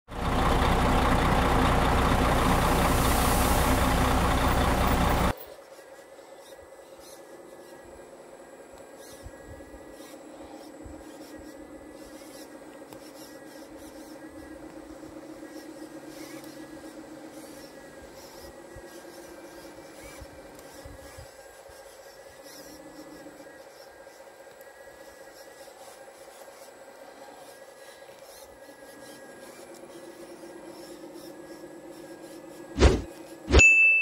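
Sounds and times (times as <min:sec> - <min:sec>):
model excavator motors humming: 0:00.1 - 0:34.0.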